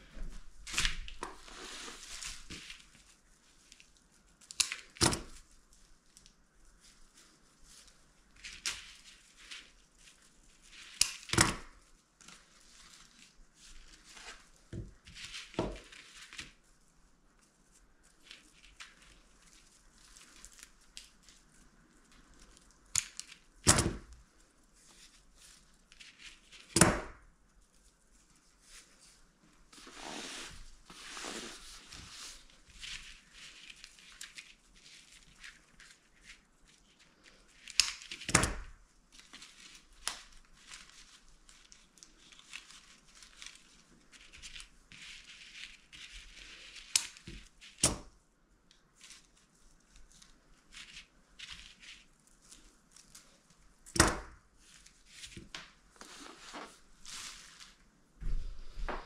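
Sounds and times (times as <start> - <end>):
rustling and crinkling of craft materials: 0.0 - 59.0.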